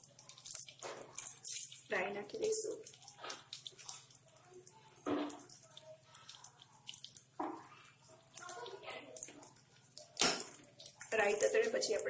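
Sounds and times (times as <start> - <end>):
seeds sizzling and popping in oil: 0.0 - 12.0.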